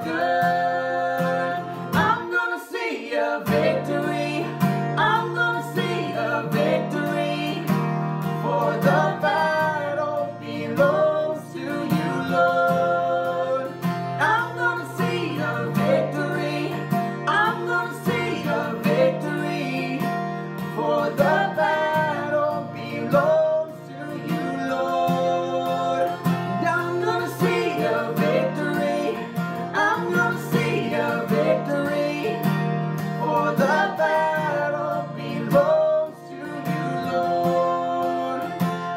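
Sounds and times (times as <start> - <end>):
man and woman singing: 0.0 - 38.9
strummed acoustic guitar: 0.0 - 38.9.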